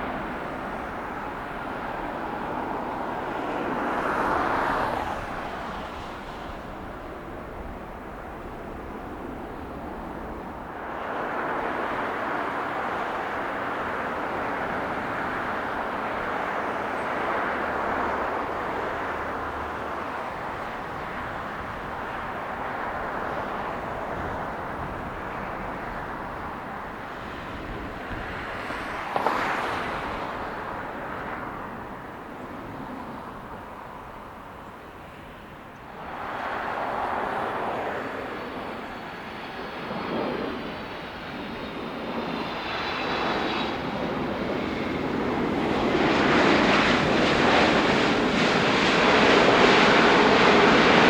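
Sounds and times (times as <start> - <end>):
jet engine roar: 0.0 - 51.0.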